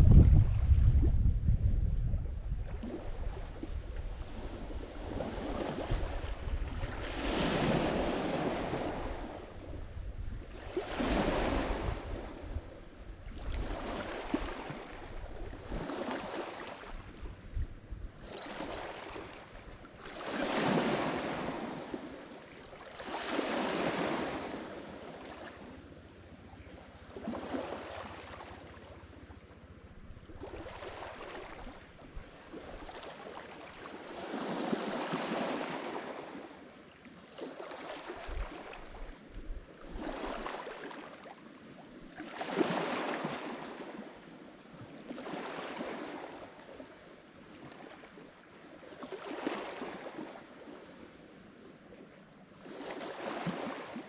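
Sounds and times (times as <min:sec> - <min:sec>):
waves breaking on shore: 0:02.7 - 0:25.8, 0:26.8 - 0:29.2, 0:30.2 - 0:54.0.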